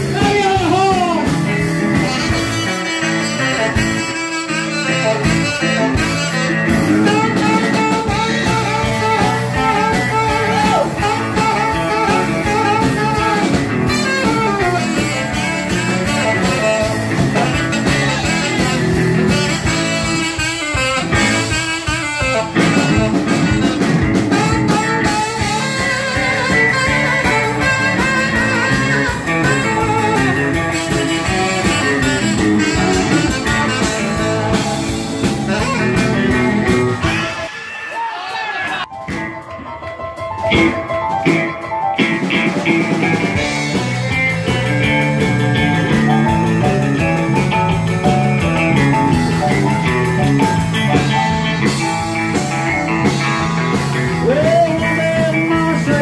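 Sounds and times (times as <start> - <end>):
saxophone solo: 0.0 - 39.2, 40.4 - 56.0
blues-rock band playing: 0.0 - 56.0.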